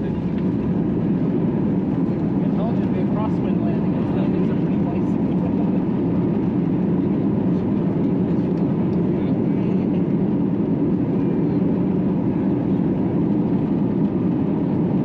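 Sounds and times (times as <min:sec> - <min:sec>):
airliner cabin engine and air noise: 0:00.0 - 0:15.0.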